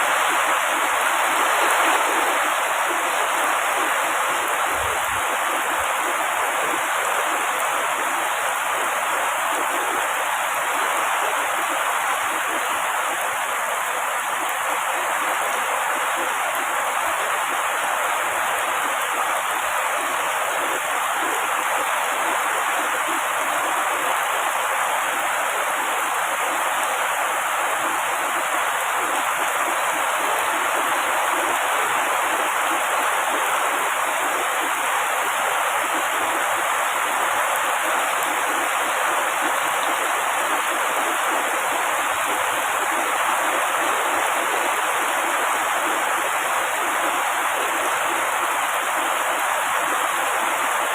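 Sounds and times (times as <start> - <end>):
heavy rain on foliage: 0.0 - 50.9.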